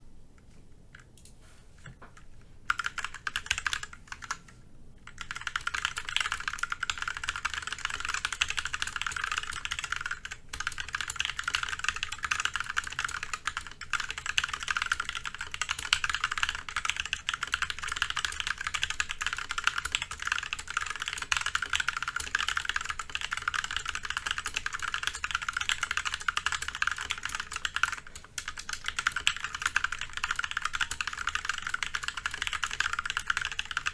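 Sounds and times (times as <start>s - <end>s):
mechanical keyboard typing: 2.2s - 33.9s.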